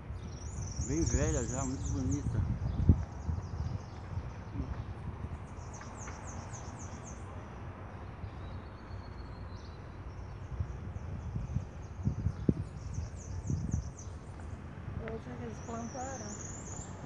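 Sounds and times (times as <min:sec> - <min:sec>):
low steady outdoor rumble: 0:00.0 - 0:17.0.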